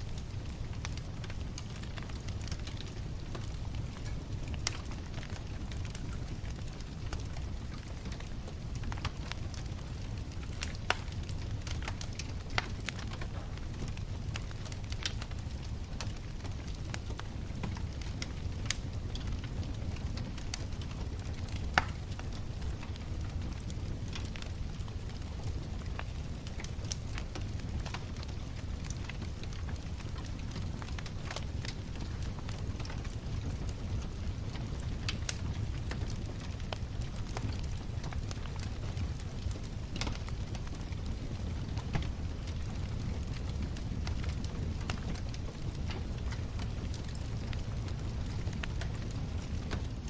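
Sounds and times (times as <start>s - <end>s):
bonfire crackling and popping: 0.0s - 50.0s
low fire rumble: 0.0s - 50.0s.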